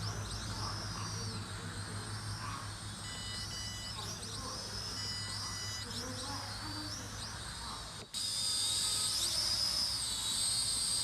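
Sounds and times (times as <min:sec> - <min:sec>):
toy drone propellers whining: 0:00.0 - 0:11.0.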